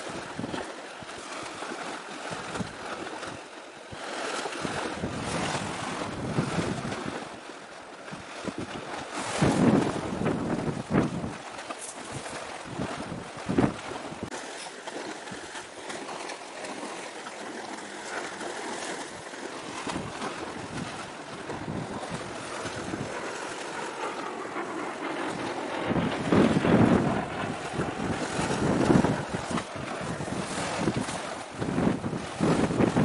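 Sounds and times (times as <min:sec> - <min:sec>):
waves washing: 0:00.0 - 0:33.0
wind buffeting microphone: 0:00.0 - 0:33.0.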